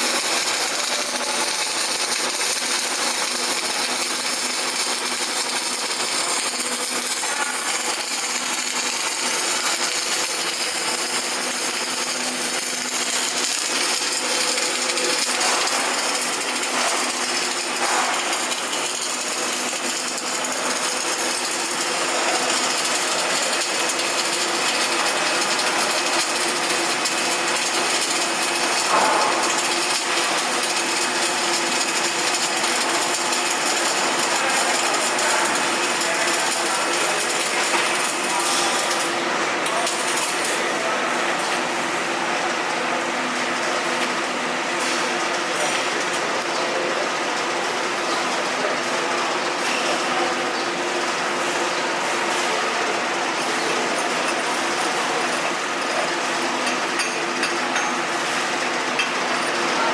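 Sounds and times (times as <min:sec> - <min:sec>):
arc welding crackle: 0:00.0 - 0:59.9.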